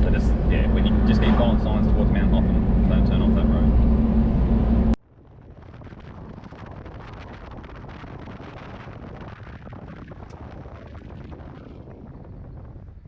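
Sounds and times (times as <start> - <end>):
vehicle rumble: 0.0 - 11.8
wind buffeting microphone: 0.0 - 13.0.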